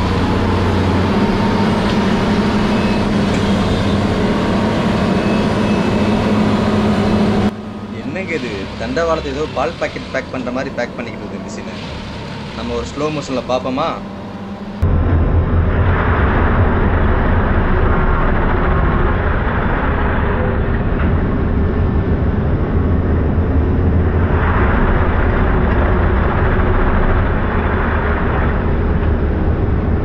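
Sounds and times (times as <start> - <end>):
tamping machine mechanical drone: 0.0 - 30.0.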